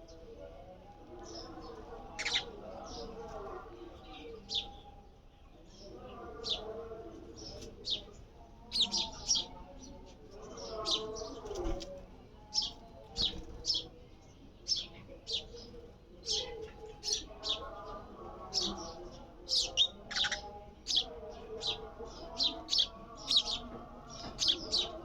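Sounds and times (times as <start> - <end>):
sparrow chirping: 1.2 - 3.2, 4.0 - 5.0, 5.6 - 11.6, 12.4 - 25.0.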